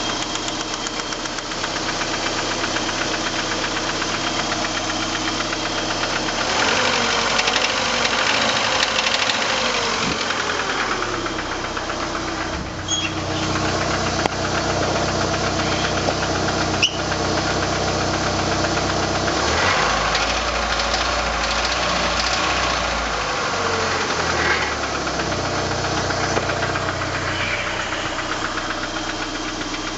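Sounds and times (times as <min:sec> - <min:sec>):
car engine revving: 0:00.0 - 0:29.9
engine knocking: 0:00.0 - 0:29.9.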